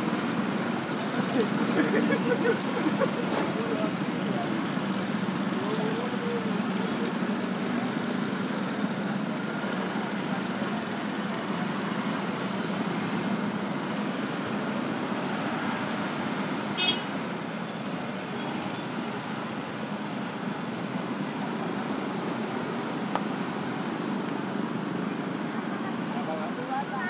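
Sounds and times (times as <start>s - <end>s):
motorcycles and scooters in traffic: 0.0s - 27.0s.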